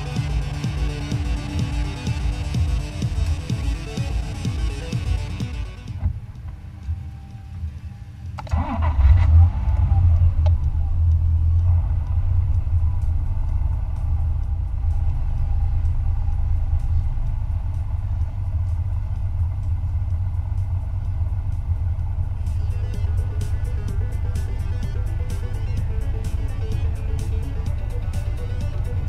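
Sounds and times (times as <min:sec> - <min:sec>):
car engine starting and idling: 0:00.0 - 0:29.0.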